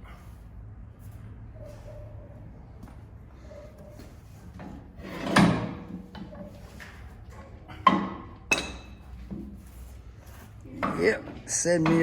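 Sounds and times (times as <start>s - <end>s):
low hum of shop noise: 0.0s - 12.0s.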